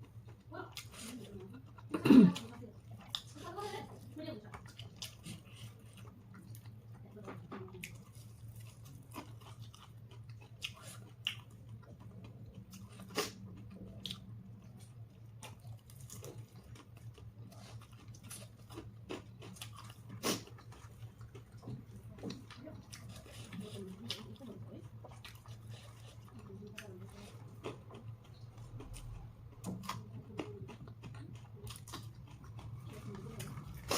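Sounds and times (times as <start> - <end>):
person chewing food: 0.0 - 33.9
steady low hum: 0.0 - 33.9.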